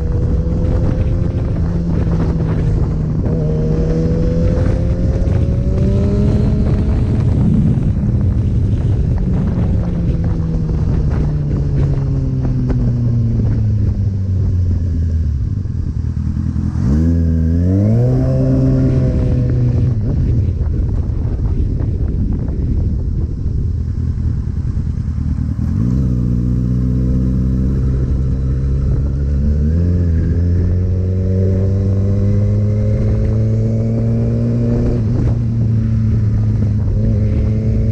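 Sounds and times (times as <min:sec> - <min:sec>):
motorcycle engine accelerating: 0:00.0 - 0:37.9
wind noise: 0:00.0 - 0:37.9.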